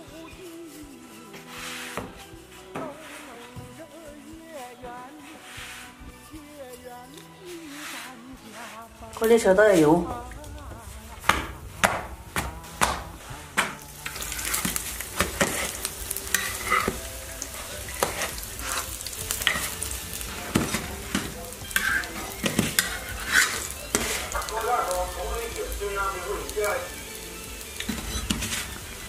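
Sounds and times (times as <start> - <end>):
flatbreads sizzling in oil: 0.0 - 29.0
metal spatula scraping wok: 0.0 - 29.0.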